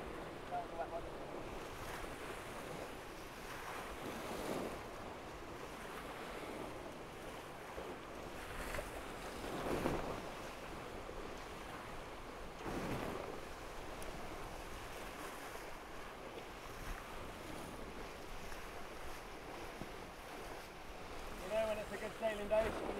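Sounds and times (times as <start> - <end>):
rushing wind and water: 0.0 - 22.9
wind buffeting microphone: 0.0 - 22.9.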